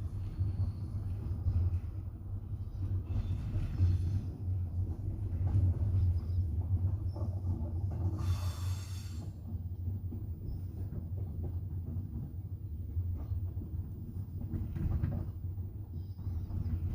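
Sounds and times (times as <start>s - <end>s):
train rumble from inside carriage: 0.0s - 16.9s.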